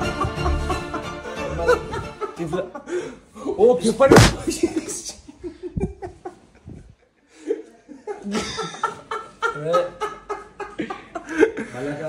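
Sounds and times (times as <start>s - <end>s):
people laughing: 0.0s - 3.6s, 4.2s - 12.0s.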